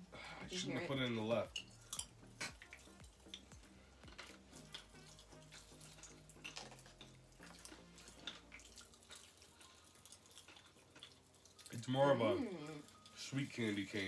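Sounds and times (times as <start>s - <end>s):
quiet background music: 0.0s - 14.0s
popping candy crackling: 1.6s - 14.0s.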